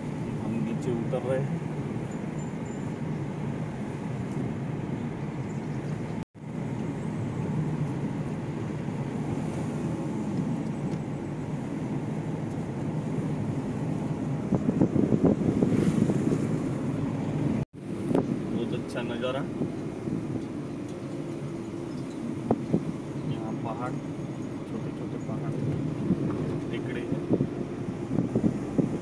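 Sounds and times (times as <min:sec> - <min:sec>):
vehicle driving on road: 0:00.0 - 0:29.0
wind rumbling on microphone: 0:00.0 - 0:29.0.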